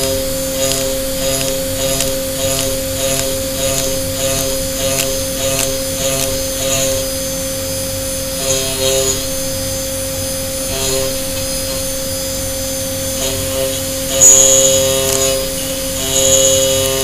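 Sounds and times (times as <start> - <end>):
milling machine spindle whine: 0.0 - 17.0.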